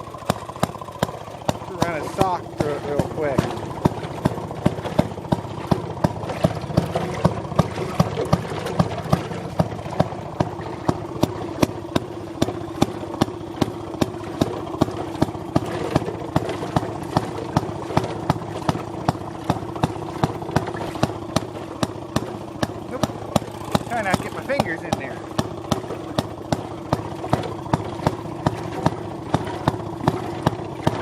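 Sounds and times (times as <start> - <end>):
sharp exhaust pops: 0.0 - 31.0
small two-stroke engine running: 0.0 - 31.0.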